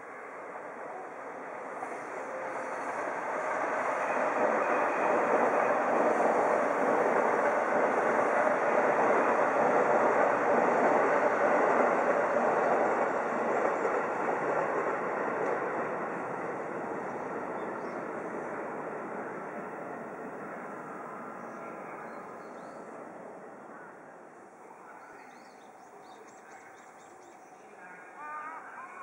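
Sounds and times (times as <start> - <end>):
electric train on tracks: 0.0 - 29.0.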